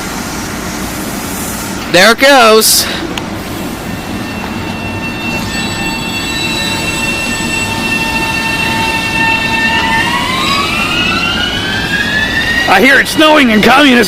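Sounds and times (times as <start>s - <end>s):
electric train drive whine: 0.0s - 14.0s
train wheels rumbling: 0.0s - 14.0s.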